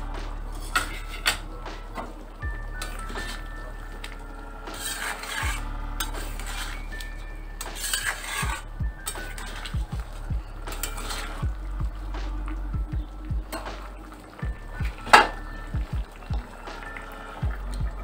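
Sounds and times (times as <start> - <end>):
metal spatula scraping a pan: 0.0 - 12.6, 13.5 - 18.0
curry simmering: 0.0 - 18.0.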